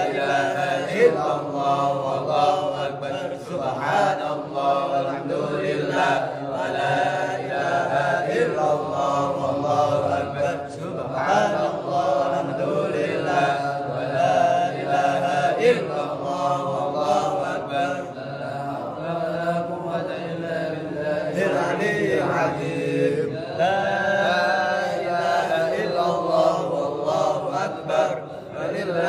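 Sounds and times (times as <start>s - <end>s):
man chanting melodically: 0.0s - 29.0s.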